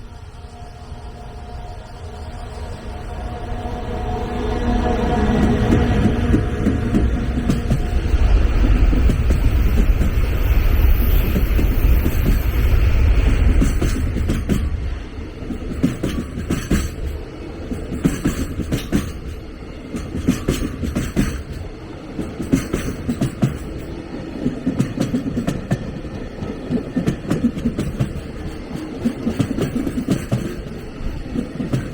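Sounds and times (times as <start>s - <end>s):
train rumbling: 0.0s - 31.9s
wheels clicking over rail joints: 5.4s - 12.7s, 13.3s - 31.9s.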